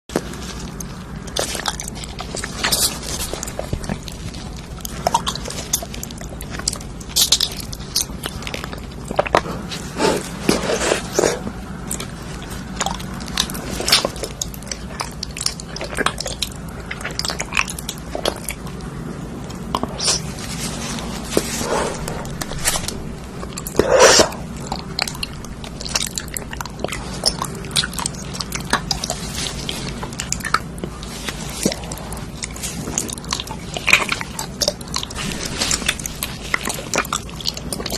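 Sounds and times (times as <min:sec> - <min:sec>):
chewing with crisp crunches: 0:00.1 - 0:37.9.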